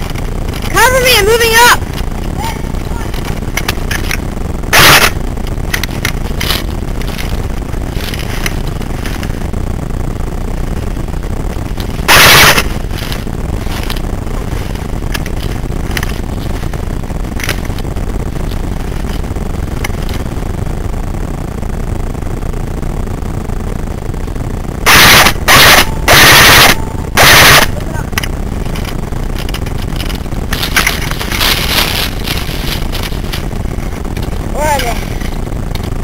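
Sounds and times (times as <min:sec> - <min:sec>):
handling noise rumble: 0:00.0 - 0:36.0
loud distorted bursts: 0:00.0 - 0:36.0.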